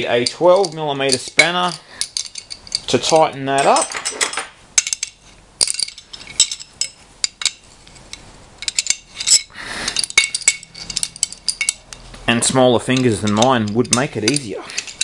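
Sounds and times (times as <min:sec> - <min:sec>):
metal spanners clinking: 0:00.0 - 0:15.0
spanner scraping: 0:00.0 - 0:15.0.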